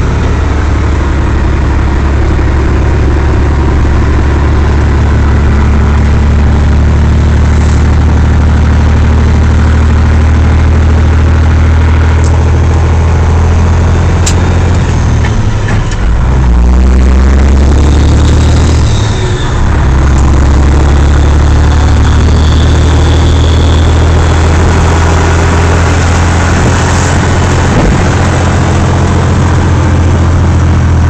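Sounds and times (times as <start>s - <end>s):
truck diesel engine drone: 0.0s - 31.0s.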